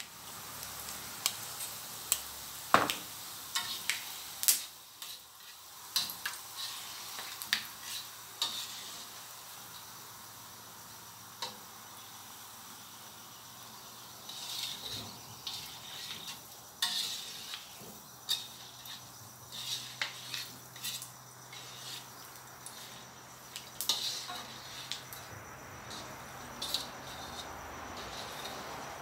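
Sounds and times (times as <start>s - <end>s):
lemongrass sizzling in oil: 0.0s - 29.0s.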